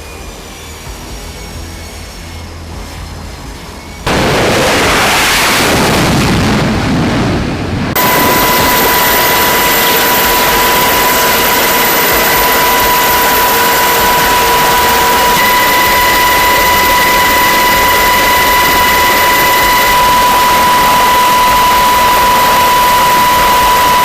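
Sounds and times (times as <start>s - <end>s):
jet engines roaring with whine: 0.0s - 24.0s.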